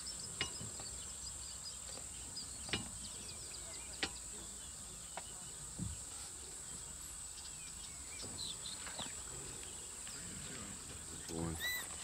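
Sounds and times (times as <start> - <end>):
bird chirps: 0.0 - 12.0
insects droning: 0.0 - 12.0.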